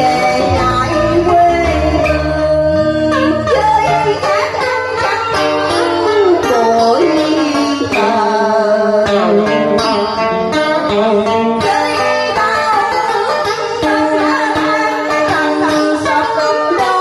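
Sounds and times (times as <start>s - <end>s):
plucked string accompaniment: 0.0s - 17.0s
woman singing into a microphone: 0.0s - 17.0s.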